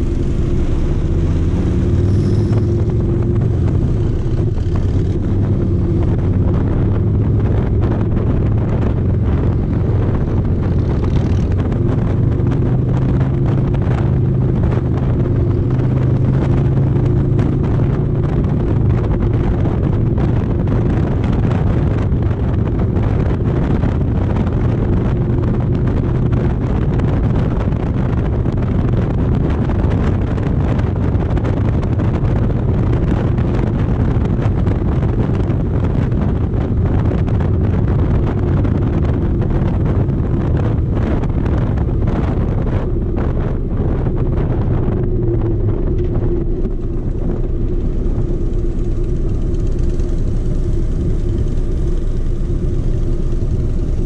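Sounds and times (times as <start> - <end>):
motorcycle engine running: 0.0 - 54.0
wind rush: 0.0 - 54.0.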